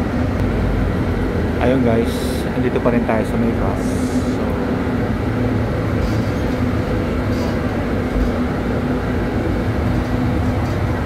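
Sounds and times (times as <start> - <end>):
bus interior rumble: 0.0 - 11.0
constant hum: 0.0 - 11.0.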